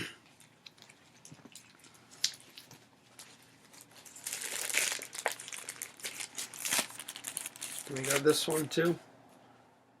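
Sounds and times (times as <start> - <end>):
packaging crinkling: 0.7 - 8.8.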